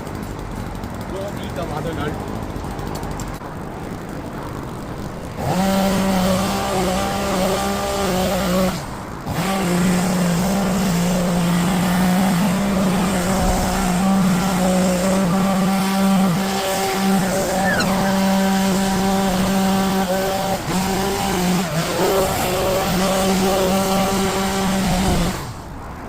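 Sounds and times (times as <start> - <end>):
garden trimmer running: 0.1 - 25.6.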